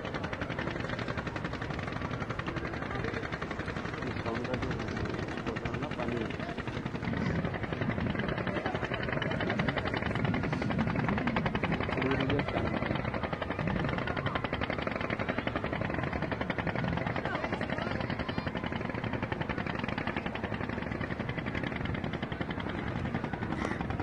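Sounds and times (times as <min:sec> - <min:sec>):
faint voices: 0:00.0 - 0:24.0
small engine chugging: 0:00.0 - 0:24.0.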